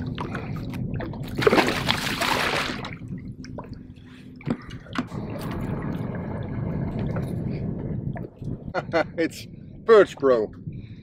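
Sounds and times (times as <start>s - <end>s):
water splashing and sloshing: 0.0s - 8.9s.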